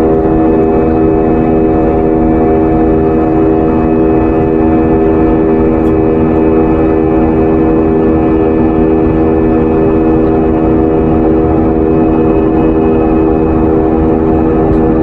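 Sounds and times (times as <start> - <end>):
airliner engines and rushing air: 0.0 - 15.0
low multi-tone hum: 0.0 - 15.0.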